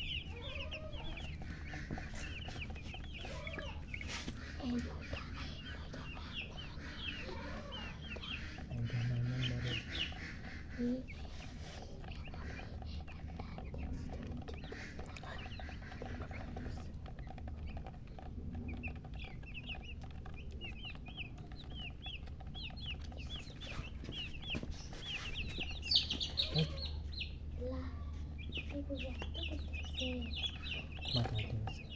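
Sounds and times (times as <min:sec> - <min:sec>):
chicks peeping: 0:00.0 - 0:31.9
hen clucking: 0:00.0 - 0:31.9.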